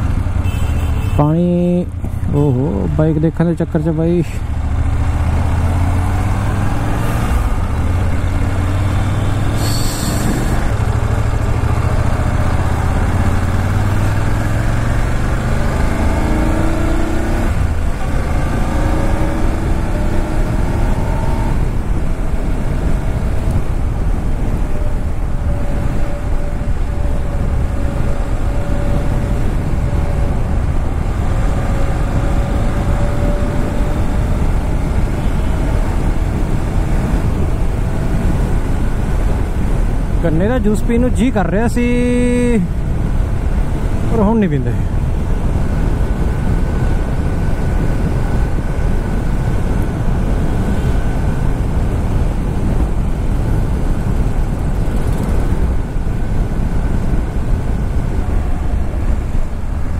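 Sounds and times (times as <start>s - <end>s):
wind rumble: 0.0s - 59.9s
motorcycle engine revving: 4.5s - 40.2s, 43.1s - 59.9s.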